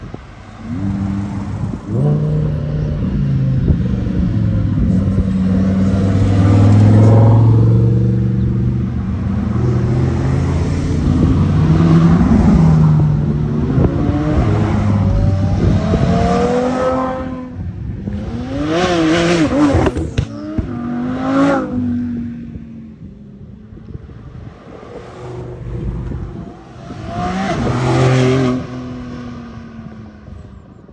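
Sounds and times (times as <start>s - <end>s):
sports car engines revving: 0.0s - 30.8s.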